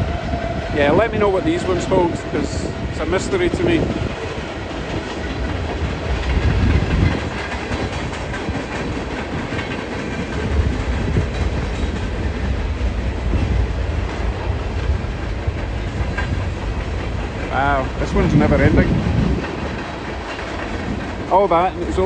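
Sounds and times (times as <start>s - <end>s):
freight train rumbling past: 0.0s - 22.0s
wheels clicking over rail joints: 3.8s - 22.0s.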